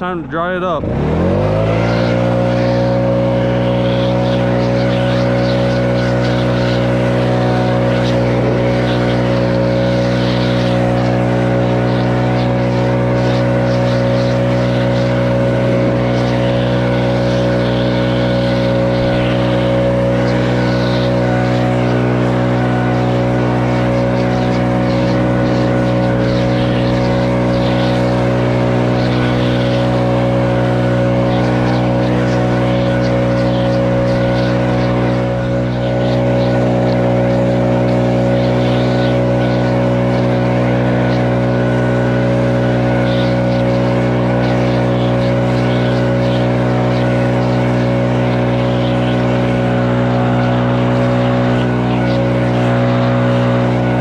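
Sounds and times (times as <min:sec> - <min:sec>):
leaf blower running: 0:00.0 - 0:54.0.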